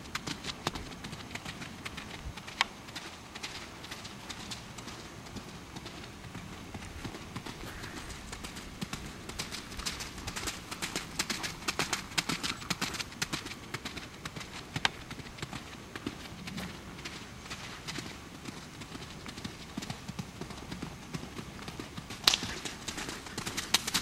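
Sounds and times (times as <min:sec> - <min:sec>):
pony hoofbeats trotting: 0:00.0 - 0:24.0.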